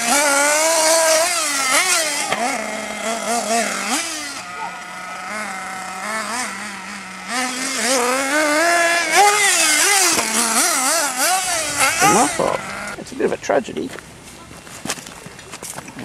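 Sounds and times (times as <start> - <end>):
model buggy engine revving: 0.0 - 13.0.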